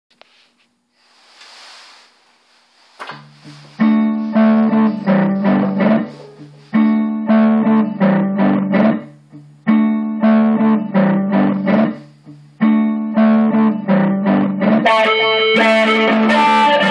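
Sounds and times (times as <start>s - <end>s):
clean electric guitar riff: 3.3s - 16.9s.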